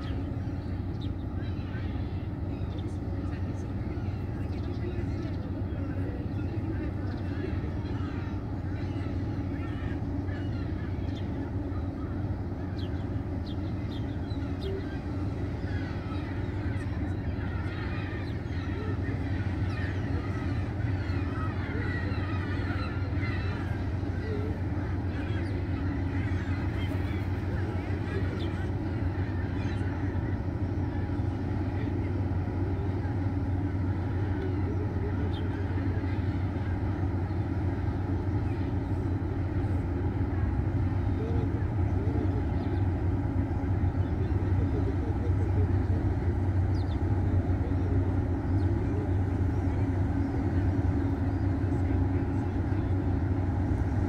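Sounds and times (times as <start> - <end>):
small birds chirping: 0.0 - 54.0
steady low rumble: 0.0 - 54.0.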